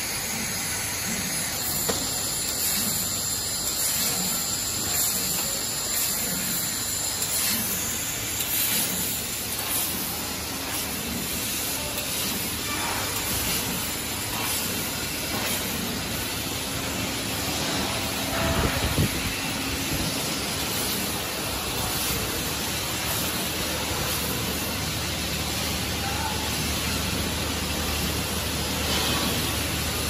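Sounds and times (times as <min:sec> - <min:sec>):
factory machinery hiss and hum: 0:00.0 - 0:30.0.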